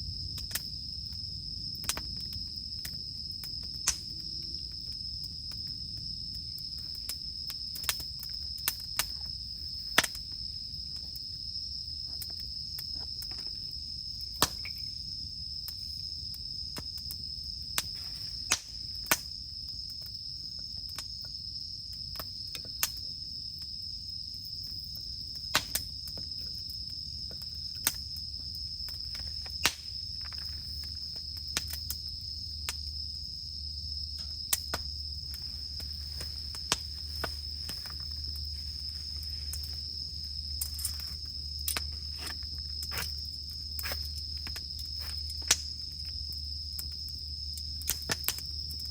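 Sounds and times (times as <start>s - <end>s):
campfire wood crackling: 0.0s - 48.9s
cicadas singing: 0.0s - 48.9s.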